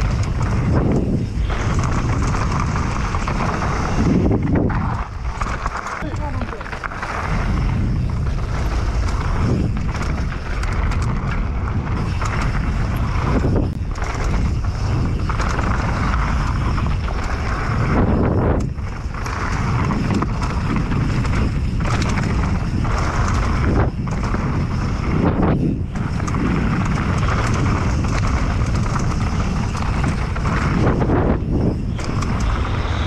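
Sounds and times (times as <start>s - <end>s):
tyres rumbling on dirt: 0.0s - 33.0s
wind buffeting microphone: 0.0s - 33.0s.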